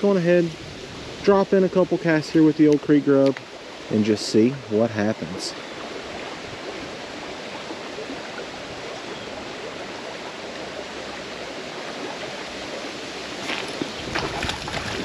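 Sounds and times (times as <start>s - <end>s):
creek running over gravel: 1.2s - 15.0s.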